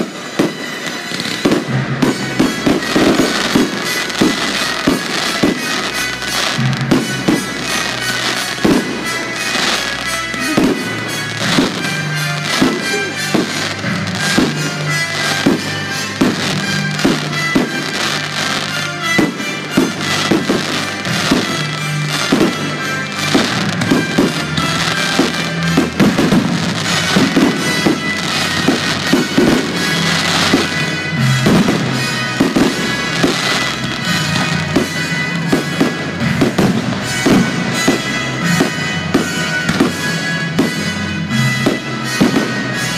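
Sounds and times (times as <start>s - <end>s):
music soundtrack: 0.0s - 42.9s.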